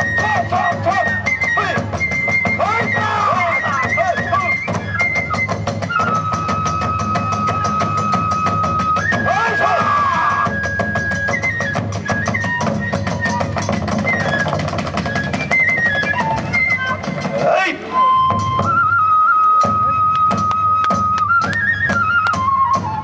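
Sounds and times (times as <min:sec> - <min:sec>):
fast drumming: 0:00.0 - 0:18.8
flute playing: 0:00.0 - 0:23.0.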